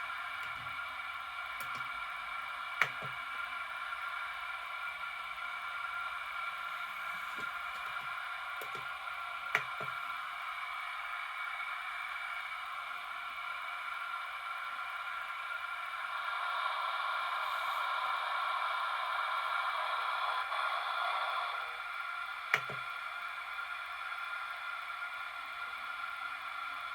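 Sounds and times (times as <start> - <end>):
steam hiss from small speaker: 0.0 - 26.9.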